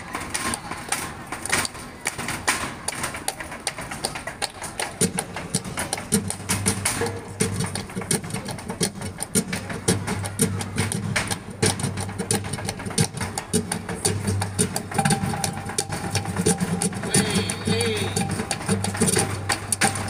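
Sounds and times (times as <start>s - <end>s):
dancer's heel and toe taps: 0.0s - 20.0s
hand clapping: 0.0s - 20.0s.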